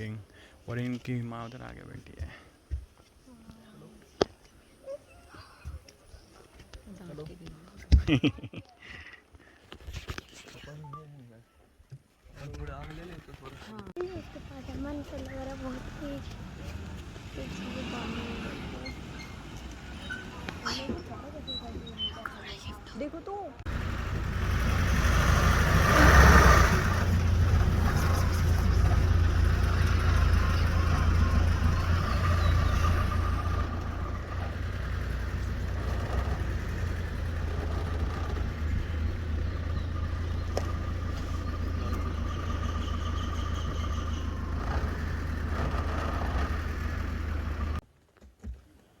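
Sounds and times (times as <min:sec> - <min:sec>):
vehicle engine rumbling: 0:00.0 - 0:08.5, 0:12.3 - 0:47.9.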